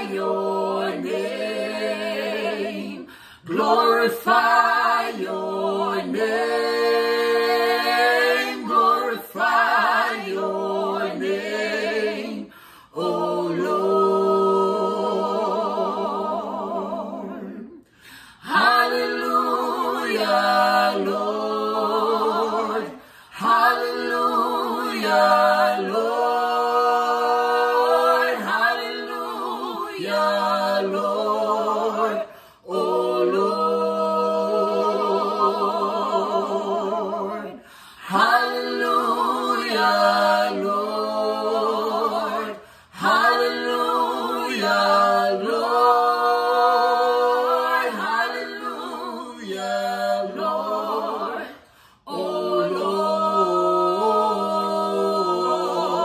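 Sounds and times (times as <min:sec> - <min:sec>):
a cappella harmony singing: 0:00.0 - 0:56.0.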